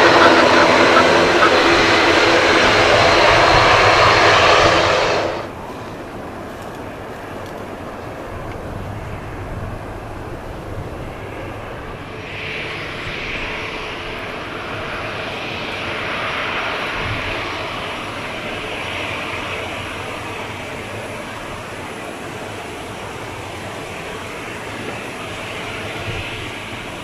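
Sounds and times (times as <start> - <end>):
jet airliner passing: 0.0 - 27.0
steady low rumble: 0.0 - 27.0.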